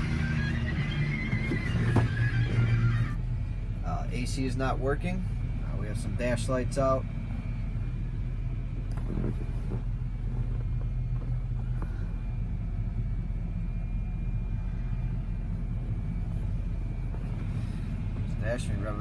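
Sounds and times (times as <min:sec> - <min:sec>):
faint high whine: 0:00.0 - 0:19.0
truck engine idling: 0:00.0 - 0:19.0.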